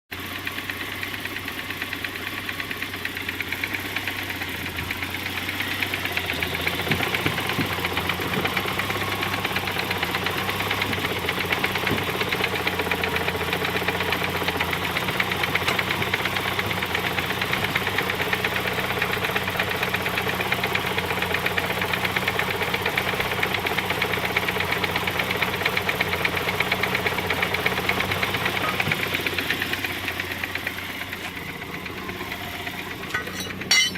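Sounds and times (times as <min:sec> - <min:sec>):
car engine idling: 0:00.1 - 0:33.9
rapid engine knock: 0:00.1 - 0:33.9.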